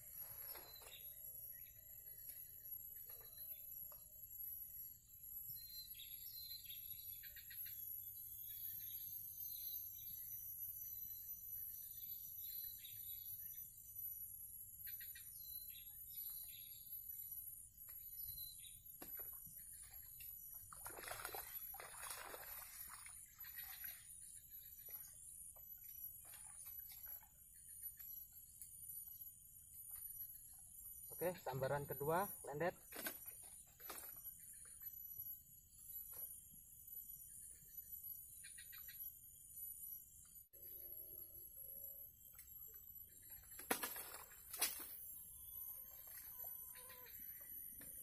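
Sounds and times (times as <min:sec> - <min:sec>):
bird chirps: 0:00.2 - 0:48.0.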